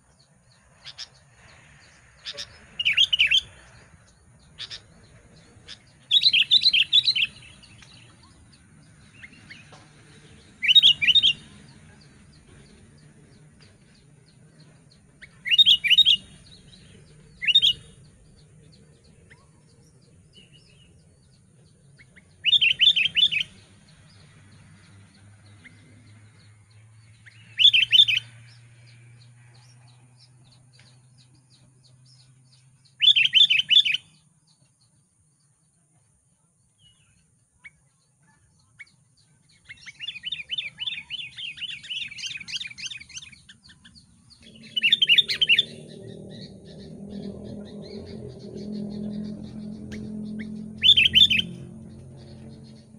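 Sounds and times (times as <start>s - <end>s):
bulbul singing: 0.0s - 35.8s, 36.6s - 52.9s.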